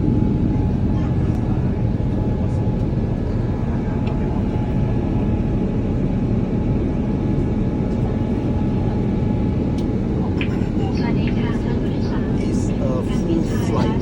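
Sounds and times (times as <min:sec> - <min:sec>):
airliner engines and airflow rumble: 0:00.0 - 0:14.0.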